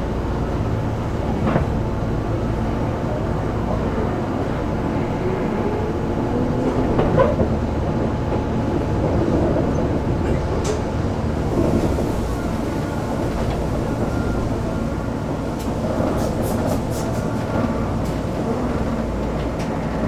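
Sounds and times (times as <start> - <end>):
train wheels on rail: 0.1 - 20.0.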